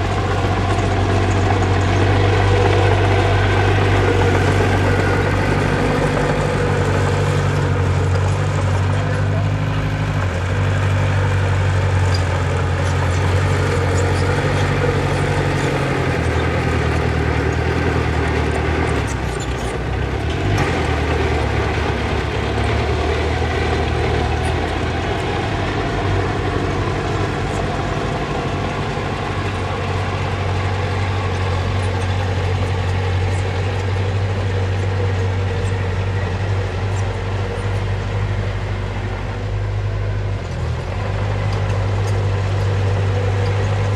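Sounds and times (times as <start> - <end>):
diesel engine of heavy machinery: 0.0 - 43.9.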